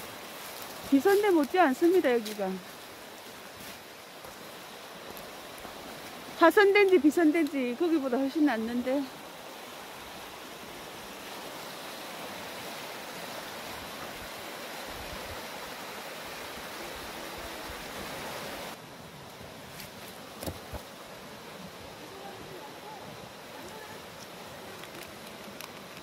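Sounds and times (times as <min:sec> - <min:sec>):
outdoor hiss: 0:00.0 - 0:26.0
stream rushing over rocks: 0:00.0 - 0:26.0.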